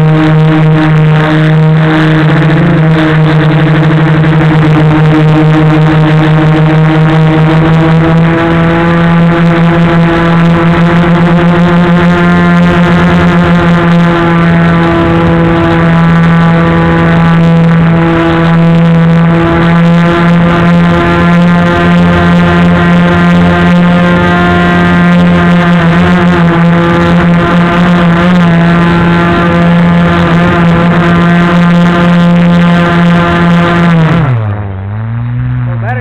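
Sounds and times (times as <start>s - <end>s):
drone propellers humming: 0.0s - 36.0s.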